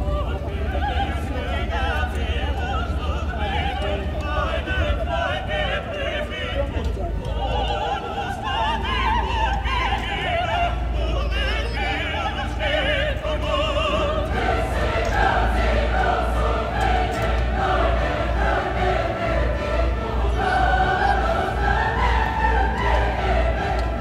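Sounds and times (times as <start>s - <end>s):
classical singing with vibrato: 0.0s - 24.0s
low steady rumble: 0.0s - 24.0s.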